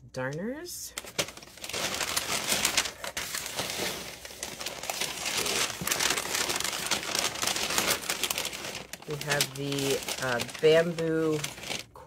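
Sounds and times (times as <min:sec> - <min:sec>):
packing paper rustling and crinkling: 0:00.9 - 0:12.0.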